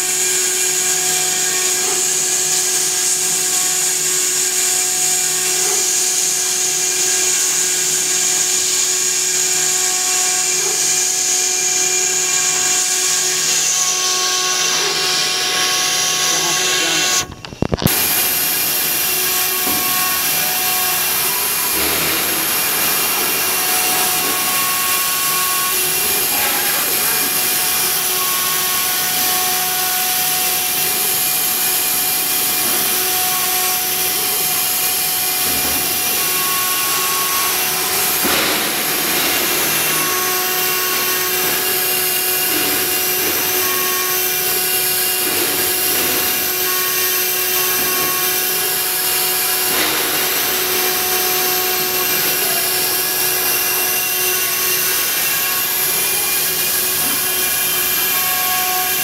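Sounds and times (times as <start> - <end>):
cnc router spindle whine: 0.0 - 59.0
motor tones: 11.5 - 59.0.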